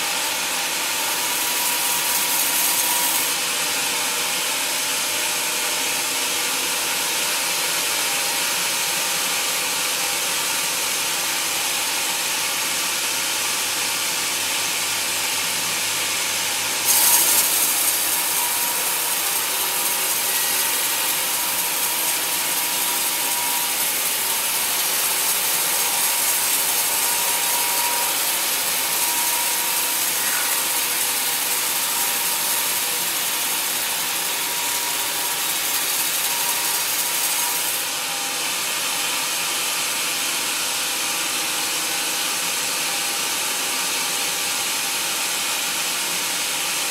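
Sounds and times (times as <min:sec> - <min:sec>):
band saw cutting through log: 0:00.0 - 0:46.8.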